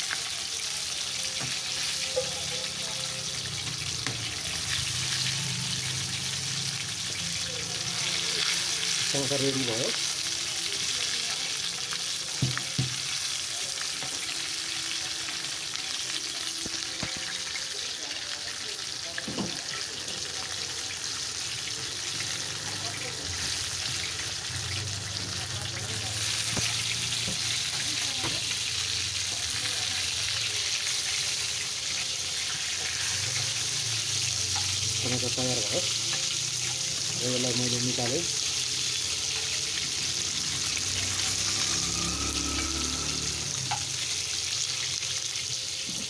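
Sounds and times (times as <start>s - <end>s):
oil sizzling: 0.0s - 46.0s.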